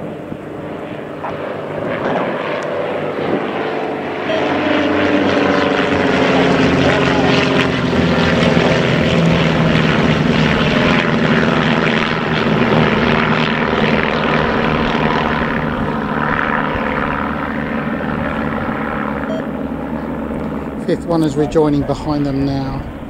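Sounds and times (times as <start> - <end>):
propeller aircraft drone overhead: 0.0 - 23.0.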